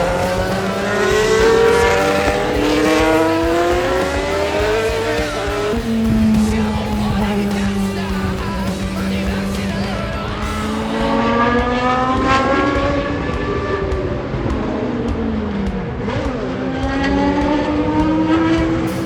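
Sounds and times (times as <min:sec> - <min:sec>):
racing car engine accelerating: 0:00.0 - 0:19.0.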